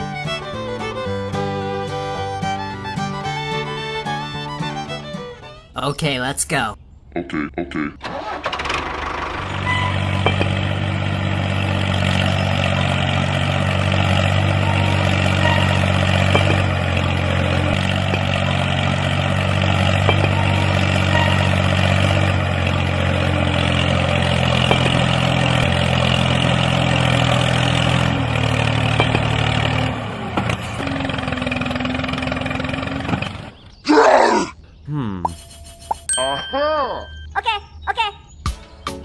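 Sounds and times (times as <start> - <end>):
tractor engine running: 0.0 - 6.4, 8.0 - 33.8.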